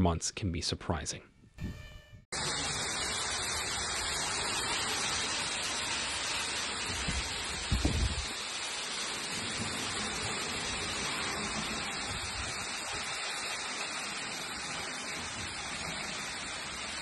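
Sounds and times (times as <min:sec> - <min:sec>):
heavy hail falling: 0:02.4 - 0:17.0.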